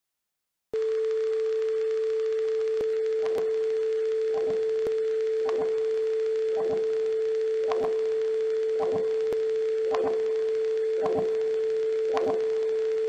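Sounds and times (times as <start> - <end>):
pulsing electronic sine tone: 0.8 - 13.0.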